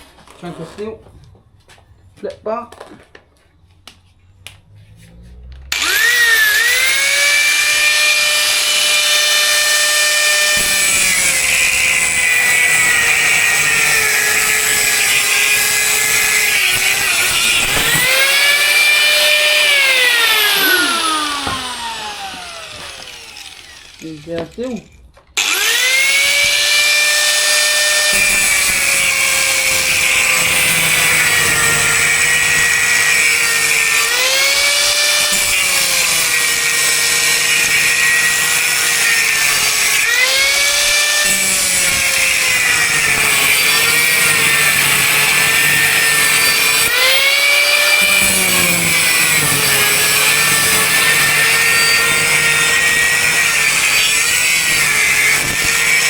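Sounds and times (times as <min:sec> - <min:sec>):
angle grinder cutting steel: 0:04.9 - 0:56.0.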